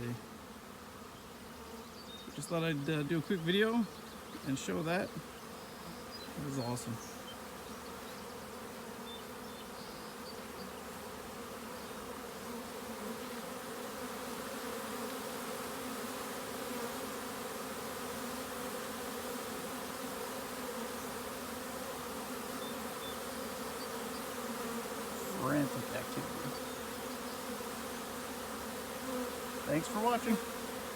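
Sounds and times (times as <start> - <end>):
honey bees humming: 0.0 - 30.9.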